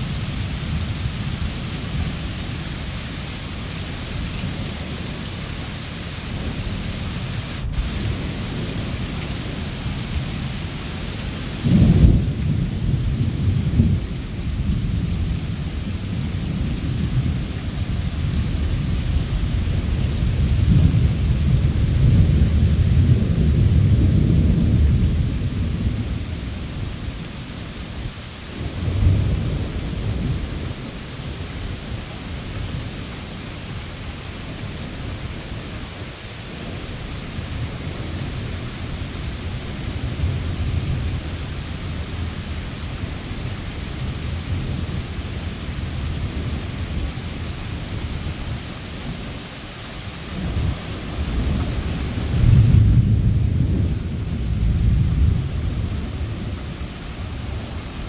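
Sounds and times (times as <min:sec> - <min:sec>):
thunder rumbling: 0:00.0 - 0:33.6, 0:34.4 - 0:58.0
steady rain falling: 0:00.0 - 0:58.0.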